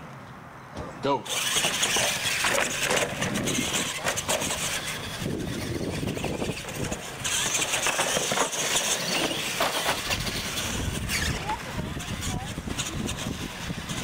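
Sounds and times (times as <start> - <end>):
trucks clattering off wooden ramps: 0.7 - 14.0
rc truck electric motors whining: 1.2 - 14.0.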